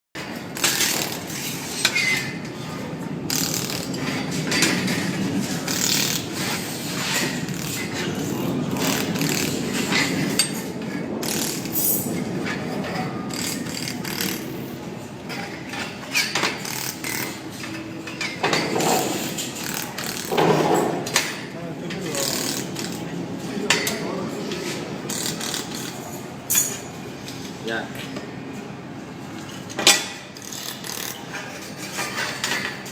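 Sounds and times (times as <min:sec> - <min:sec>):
machinery clattering: 0:00.2 - 0:27.4
steady mechanical noise: 0:00.2 - 0:32.9.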